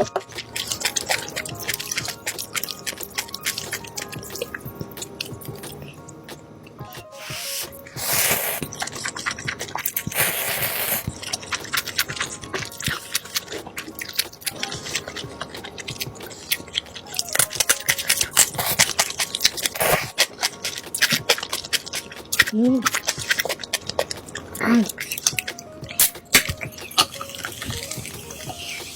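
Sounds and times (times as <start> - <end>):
crunching and chewing fried chicken: 0.0 - 28.9.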